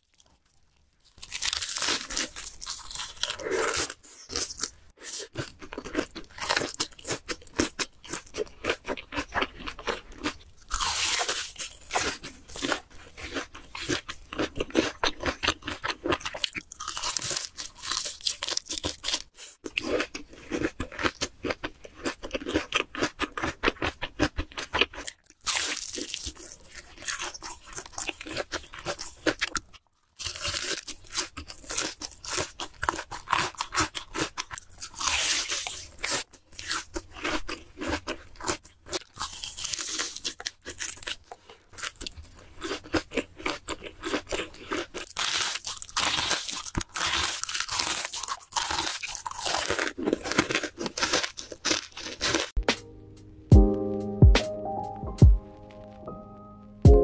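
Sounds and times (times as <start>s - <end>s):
crunching fried food: 0.0s - 52.6s.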